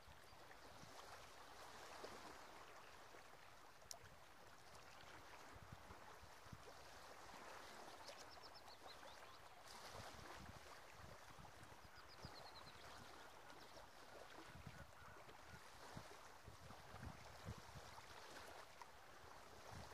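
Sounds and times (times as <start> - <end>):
water lapping at shore: 0.0 - 19.9.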